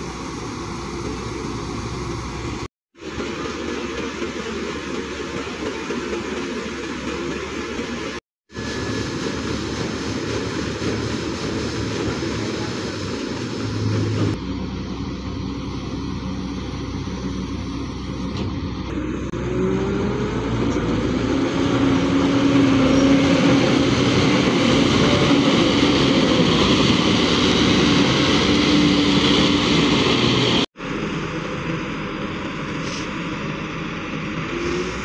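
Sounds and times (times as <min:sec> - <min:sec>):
combine harvester engine drone: 0:00.0 - 0:35.0
machine whine: 0:00.0 - 0:35.0.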